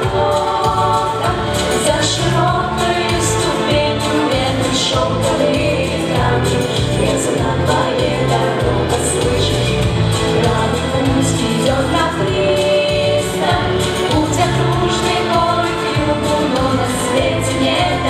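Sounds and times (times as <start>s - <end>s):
girls singing in harmony: 0.0s - 18.0s
instrumental accompaniment with bass: 0.0s - 18.0s.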